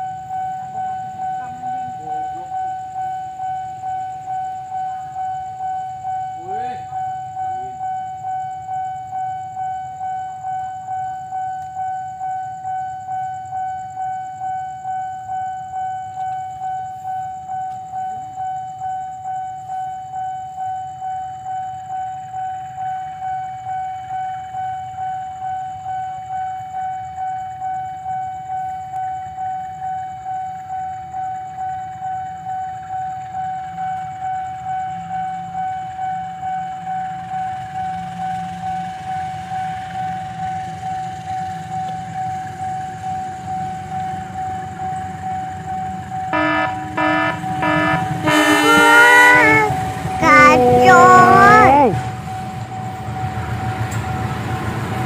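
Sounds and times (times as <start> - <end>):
pulsing level crossing alarm: 0.0 - 53.0.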